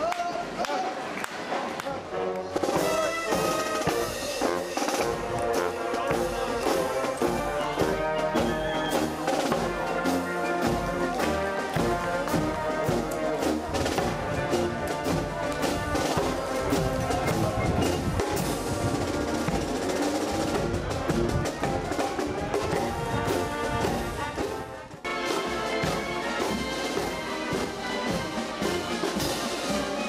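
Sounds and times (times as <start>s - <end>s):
marching brass band playing: 0.4s - 30.0s.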